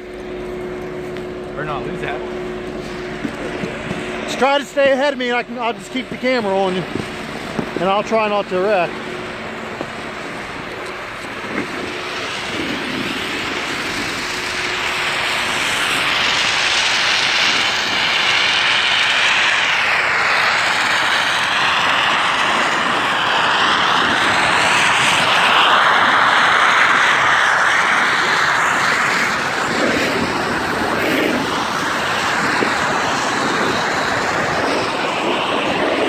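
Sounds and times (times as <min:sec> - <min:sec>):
snowmaking guns hissing: 0:01.0 - 0:36.0.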